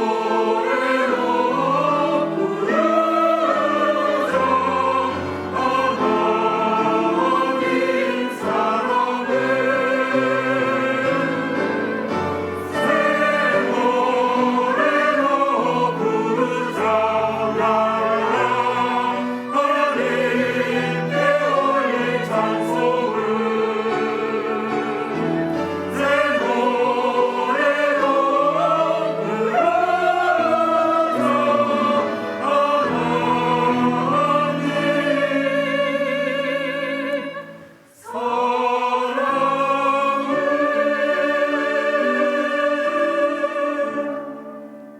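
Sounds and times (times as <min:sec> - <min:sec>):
church choir singing a hymn: 0:00.0 - 0:44.9.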